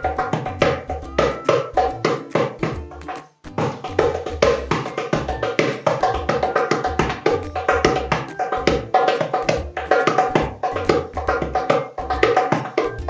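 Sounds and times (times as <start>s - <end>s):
hand drum rhythm: 0.0s - 13.0s.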